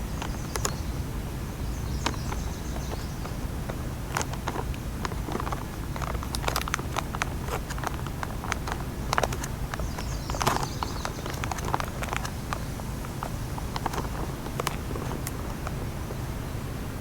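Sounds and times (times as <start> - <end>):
light clicks and taps: 0.2 - 0.9, 1.9 - 15.8.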